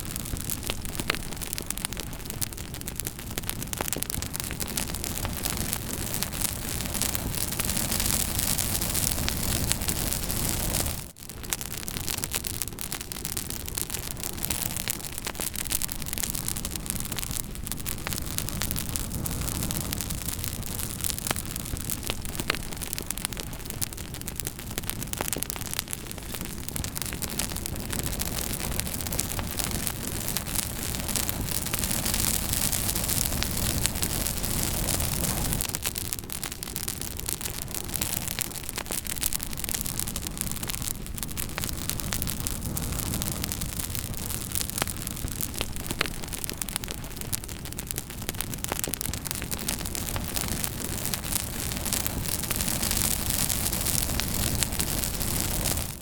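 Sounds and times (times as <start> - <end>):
burning wood crackling and popping: 0.0 - 56.0
campfire rushing: 0.0 - 56.0.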